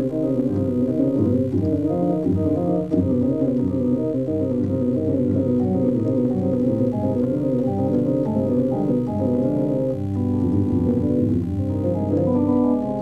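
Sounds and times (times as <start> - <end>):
home organ playing: 0.0 - 13.0.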